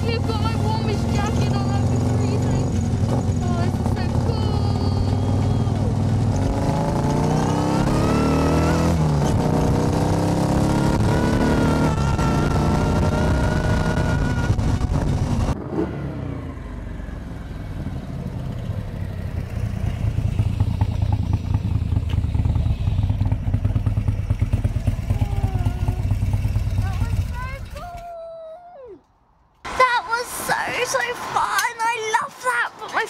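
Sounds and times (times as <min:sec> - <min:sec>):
car engine accelerating through gears: 0:00.0 - 0:27.2.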